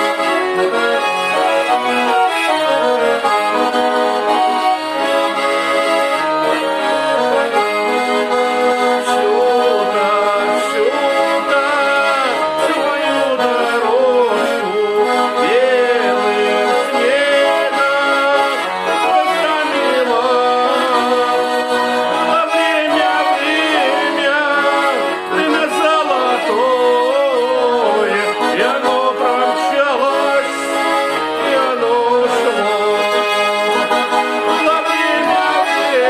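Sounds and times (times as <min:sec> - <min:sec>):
accordion music: 0:00.0 - 0:36.0.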